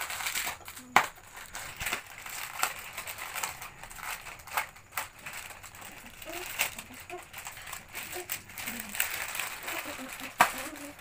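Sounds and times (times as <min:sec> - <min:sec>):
foil packet crinkling: 0:00.0 - 0:11.0
potato chips crunching: 0:00.0 - 0:11.0.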